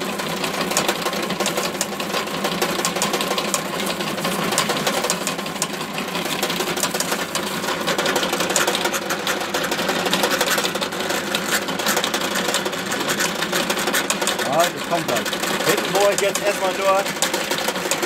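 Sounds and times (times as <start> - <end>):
drill press clicking rattle: 0.0 - 18.0.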